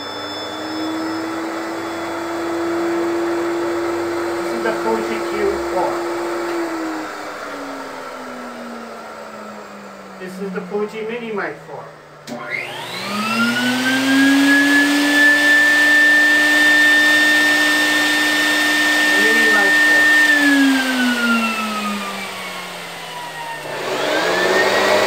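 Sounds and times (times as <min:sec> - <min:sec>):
turbine whine: 0:00.0 - 0:25.0.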